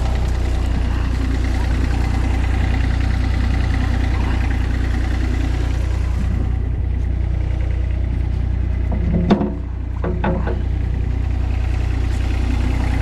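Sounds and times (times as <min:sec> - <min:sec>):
small gas engine idling: 0:00.0 - 0:13.0.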